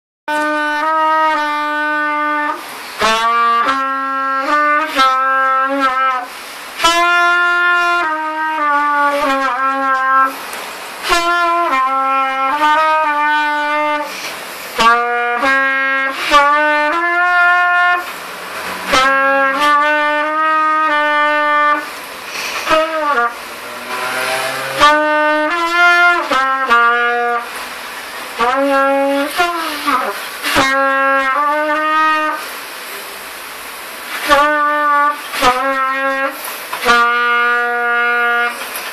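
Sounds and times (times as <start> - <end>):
trumpet playing slow melody: 0.3 - 38.9.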